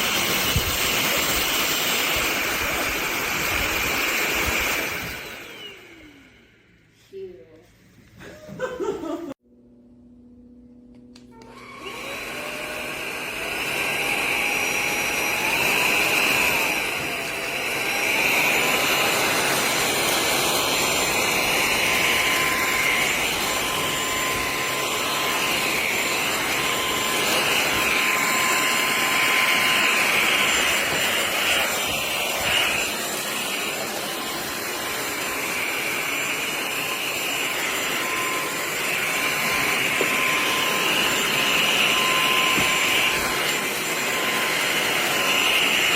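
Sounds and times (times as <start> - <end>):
stick vacuum motor whine: 0.0 - 6.9, 8.2 - 45.9.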